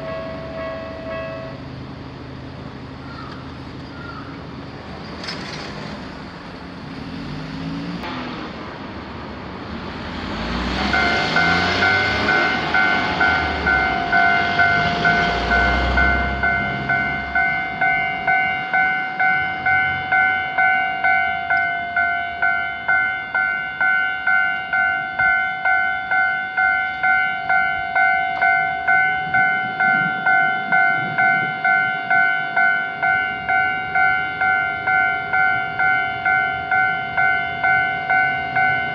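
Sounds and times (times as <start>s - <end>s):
railroad crossing bell ringing: 0.0s - 3.9s, 10.3s - 38.9s
train rumbling past: 0.0s - 38.9s.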